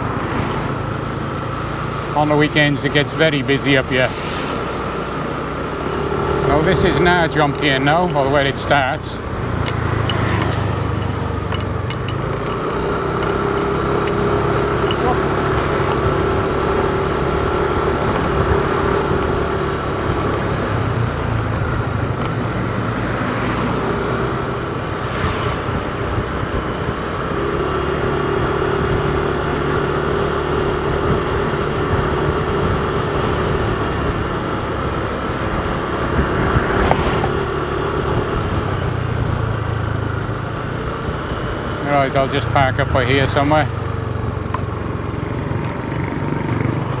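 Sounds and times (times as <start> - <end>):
car engine hum: 0.0 - 47.0
road rumble: 0.0 - 47.0.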